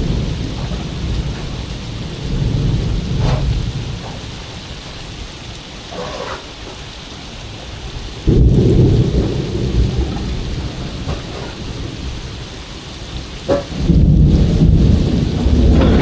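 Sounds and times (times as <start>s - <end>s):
heavy rain hissing: 0.0s - 16.0s
thunder rumbling: 0.0s - 16.0s.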